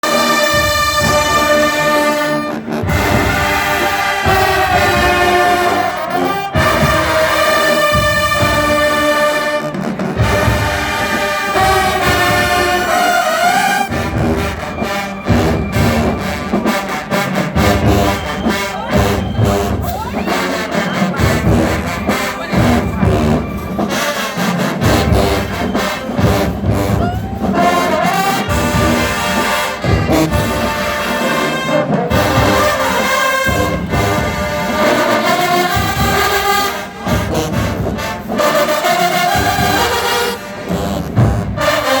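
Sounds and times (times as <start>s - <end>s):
brass ensemble playing: 0.0s - 42.0s
rapid drum strikes: 0.0s - 42.0s.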